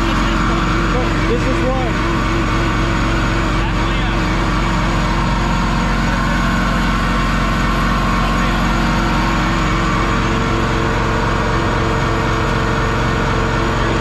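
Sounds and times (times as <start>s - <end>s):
bus engine revving high: 0.0s - 14.0s
tire spinning on concrete: 0.0s - 14.0s.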